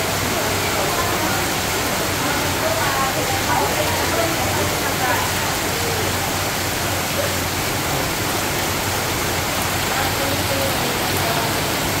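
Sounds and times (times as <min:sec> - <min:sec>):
heavy rain on roofing: 0:00.0 - 0:12.0.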